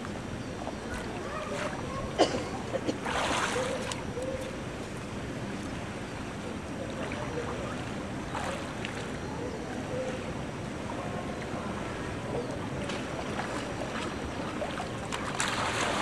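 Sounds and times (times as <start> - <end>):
water wash: 0.8 - 16.0
faint swimmer splashes: 0.9 - 4.6, 6.8 - 16.0.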